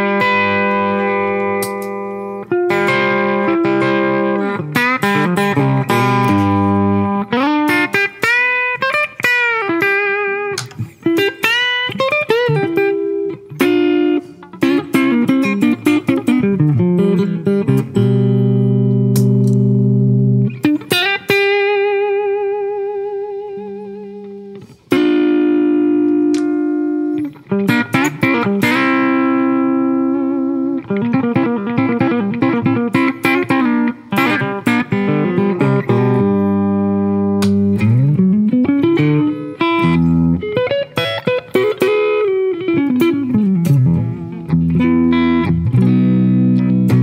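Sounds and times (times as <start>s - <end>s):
clean electric guitar: 0.0s - 47.0s.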